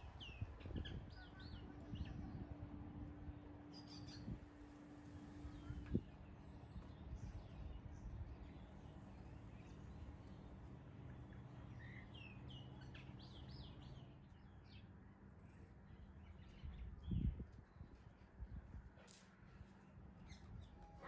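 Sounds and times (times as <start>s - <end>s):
small birds chirping: 0.0s - 2.6s, 3.2s - 18.2s
low outdoor rumble: 0.0s - 21.0s.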